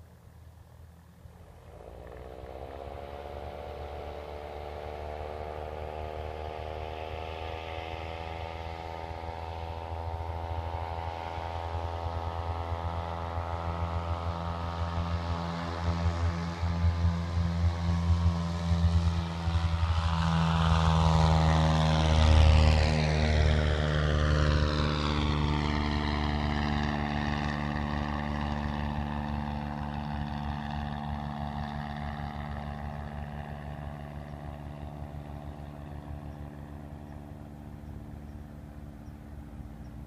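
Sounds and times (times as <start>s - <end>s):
propeller plane engine droning: 0.0s - 40.0s.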